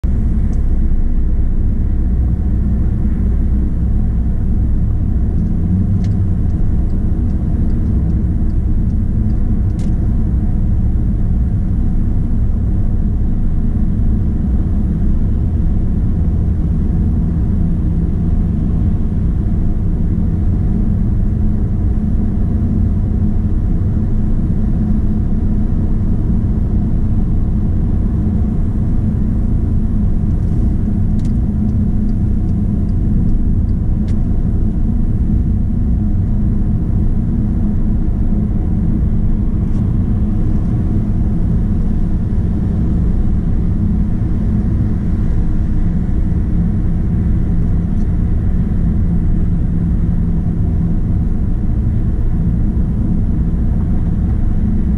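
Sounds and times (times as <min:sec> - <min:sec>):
engine rumble: 0:00.0 - 0:54.9.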